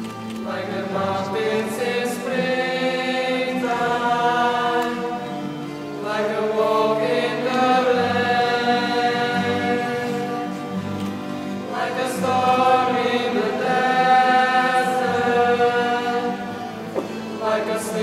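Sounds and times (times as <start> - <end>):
youth choir singing chords: 0.4 - 18.0.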